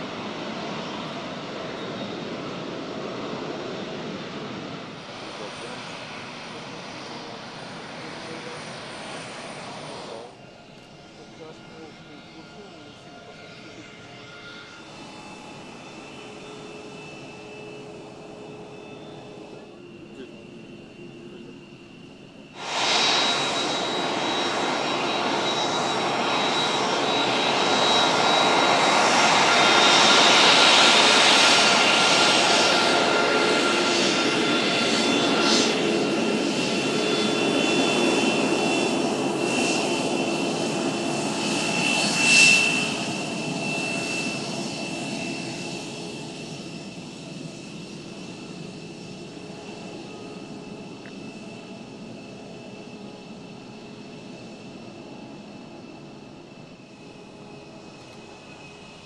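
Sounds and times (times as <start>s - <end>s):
high engine whine: 0.0s - 59.0s
jet engines roaring: 0.0s - 59.0s.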